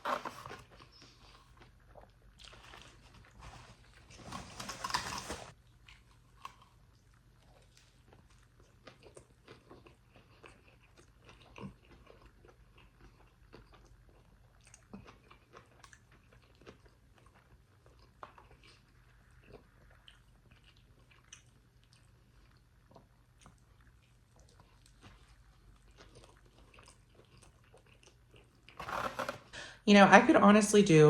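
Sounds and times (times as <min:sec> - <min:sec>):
person chewing food: 0:00.0 - 0:29.5
faint low hum: 0:00.0 - 0:31.0.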